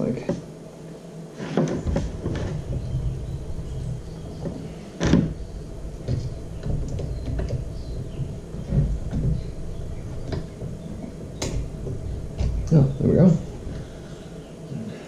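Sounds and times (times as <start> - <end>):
low handling rumble: 1.8 - 15.0.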